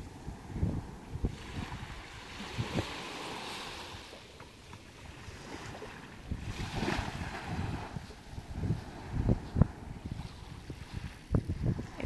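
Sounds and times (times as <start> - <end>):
wind buffeting microphone: 0.0 - 4.2, 5.0 - 12.0
water rushing around boat: 0.0 - 12.0.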